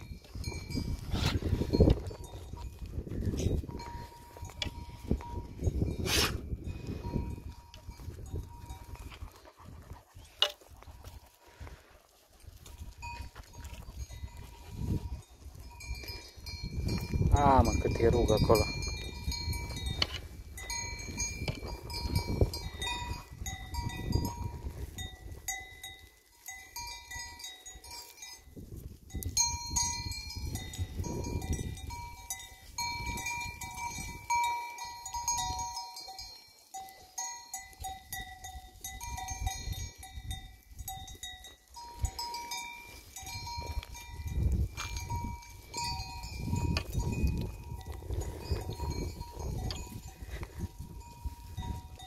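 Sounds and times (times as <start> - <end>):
goat bells clinking: 0.0 - 52.0.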